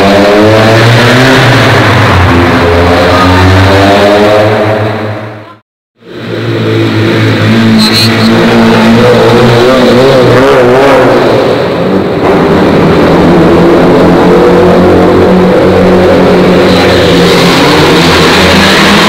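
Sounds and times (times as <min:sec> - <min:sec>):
car engines accelerating in tunnel: 0:00.0 - 0:19.0.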